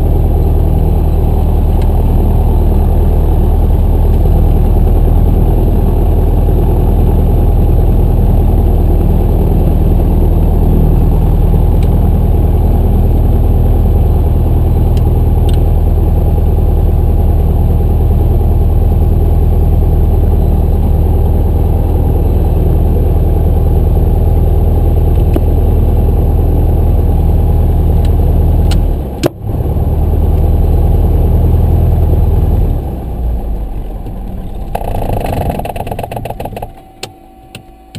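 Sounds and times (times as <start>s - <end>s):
aircraft engine idling: 0.0s - 37.9s
engine running down: 0.0s - 37.9s.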